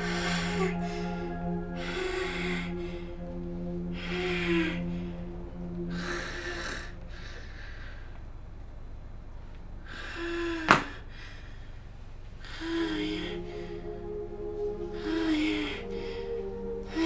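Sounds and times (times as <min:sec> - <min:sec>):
soft sustained music notes: 0:00.0 - 0:10.0, 0:12.4 - 0:17.0.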